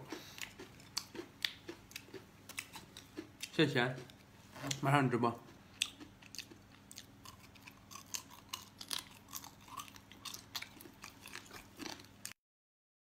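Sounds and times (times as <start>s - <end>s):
person chewing crunchy food: 0.0s - 12.4s.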